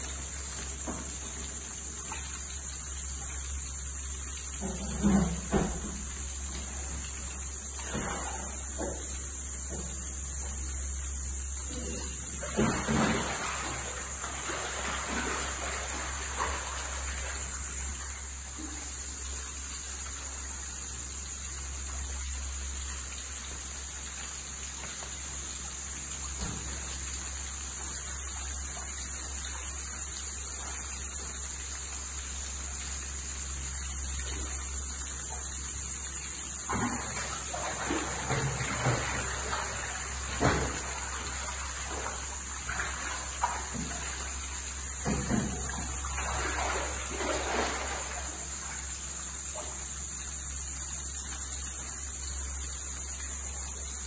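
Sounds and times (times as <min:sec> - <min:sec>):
water rushing in a tank: 0:00.0 - 0:54.0.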